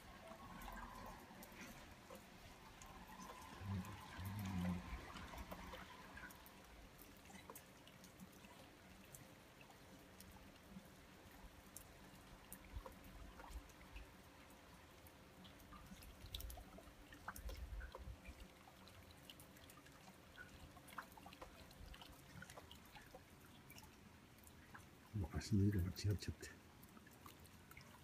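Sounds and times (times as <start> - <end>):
light water drips: 0.0 - 28.0
water trickling: 0.0 - 28.0.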